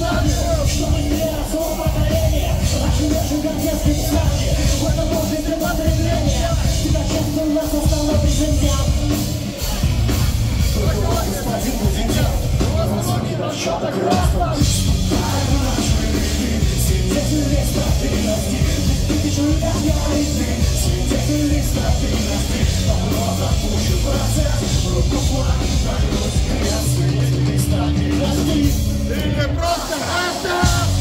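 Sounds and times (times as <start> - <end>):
live band playing loud rock: 0.0 - 31.0.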